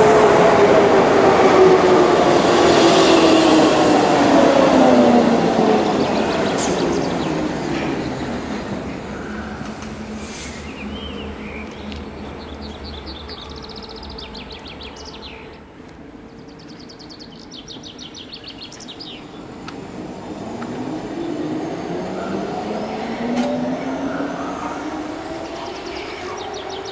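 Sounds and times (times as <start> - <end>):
train running past with motor whine: 0.0 - 16.6, 17.2 - 26.9.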